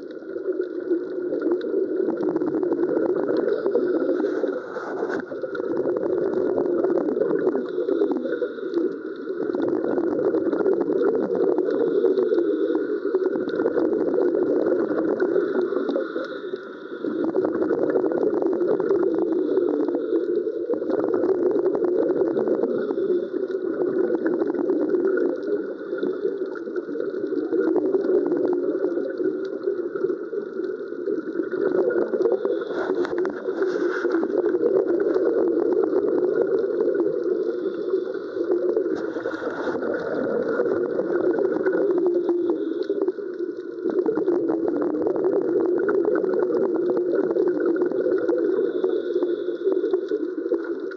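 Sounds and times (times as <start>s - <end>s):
low underwater bubbling: 0.0s - 50.9s
underwater fizzing crackle: 0.0s - 50.9s.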